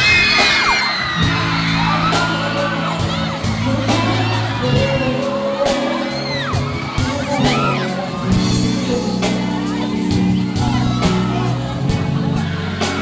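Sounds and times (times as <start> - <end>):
amplified pop ballad: 0.0 - 13.0
fans screaming and whooping: 0.0 - 13.0
man singing into microphone: 1.2 - 13.0.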